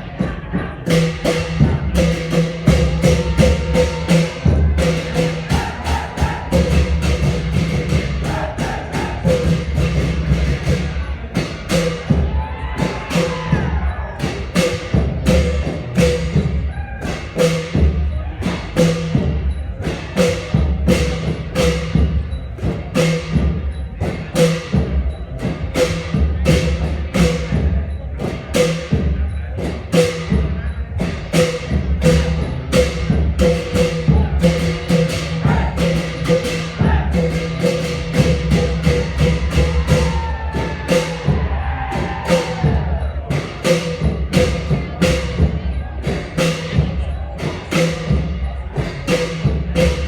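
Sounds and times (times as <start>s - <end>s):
deep drum beats: 0.0s - 50.0s
crashing cymbals: 0.9s - 50.0s.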